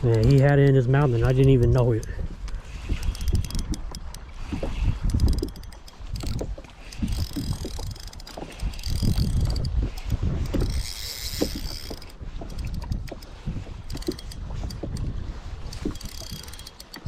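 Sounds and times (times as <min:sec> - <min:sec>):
small clicks: 0:00.0 - 0:13.3, 0:13.9 - 0:15.1, 0:15.7 - 0:17.0
water slapping boat hull: 0:00.0 - 0:17.0
wind buffeting microphone: 0:00.0 - 0:17.0.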